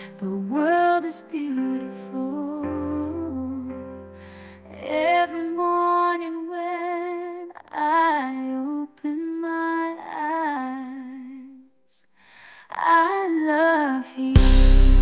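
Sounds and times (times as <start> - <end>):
woman singing pop ballad: 0.0 - 11.6, 12.6 - 15.0.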